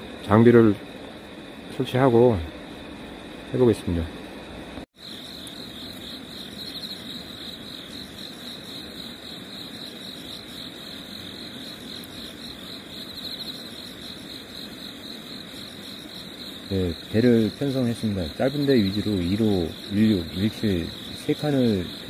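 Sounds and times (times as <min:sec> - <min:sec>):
crickets chirping: 0:00.0 - 0:22.0
faint hiss: 0:00.0 - 0:22.0.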